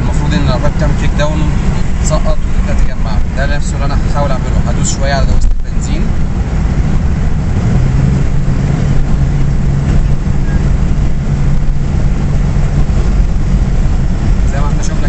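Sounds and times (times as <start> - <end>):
car engine droning: 0.0 - 15.0
road noise: 0.0 - 15.0.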